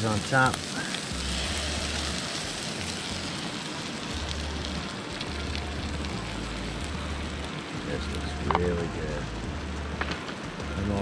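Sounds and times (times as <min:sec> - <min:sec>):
eggs sizzling on griddle: 0:00.0 - 0:11.0
low rumble: 0:00.9 - 0:11.0.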